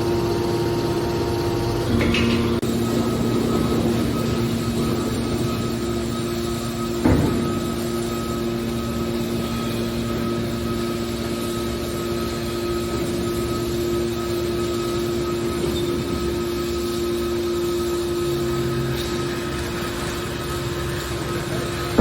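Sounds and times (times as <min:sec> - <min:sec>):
industrial machinery humming: 0:00.0 - 0:22.0.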